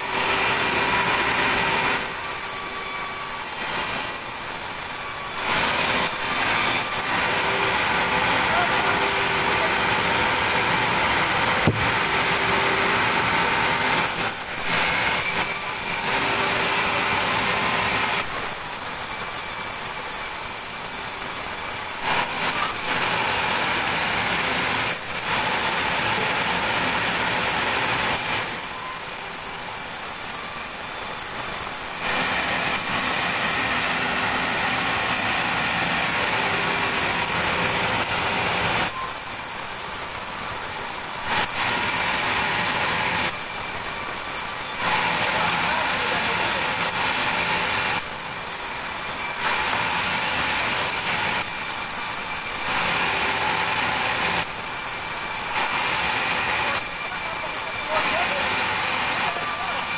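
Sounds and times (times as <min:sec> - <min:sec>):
sawmill saw whining: 0:00.0 - 0:59.9.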